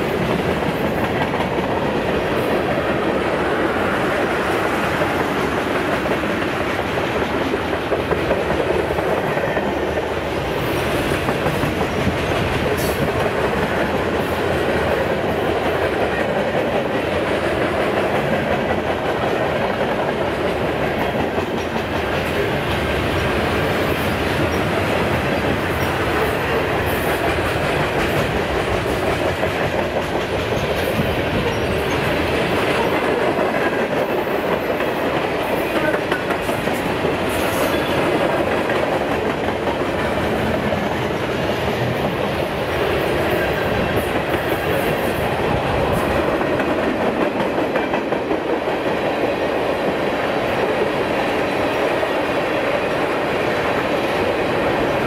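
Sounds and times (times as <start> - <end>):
train wheels running on rails: 0.0 - 55.0.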